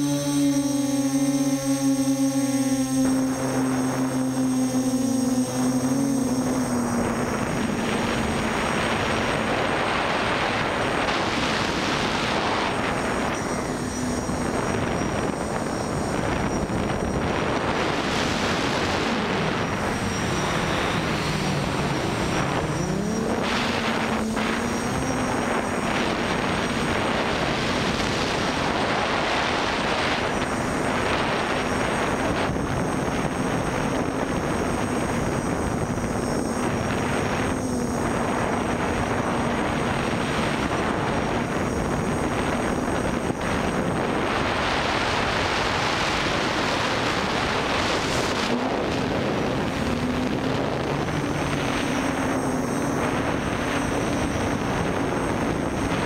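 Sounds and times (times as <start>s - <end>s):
quadcopter motor hum: 0.0s - 56.0s
wind noise: 0.0s - 56.0s.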